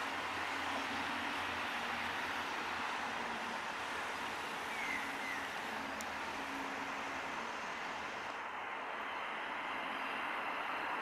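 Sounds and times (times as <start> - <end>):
distant train rumbling: 0.0 - 11.0.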